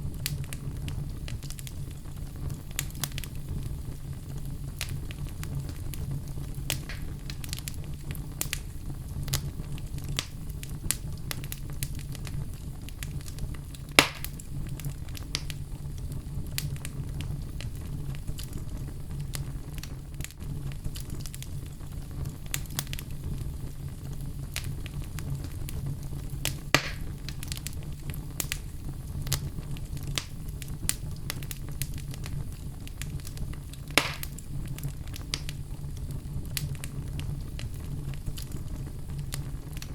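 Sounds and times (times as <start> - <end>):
fire crackling: 0.0 - 39.9
loud fire pops: 0.0 - 39.9.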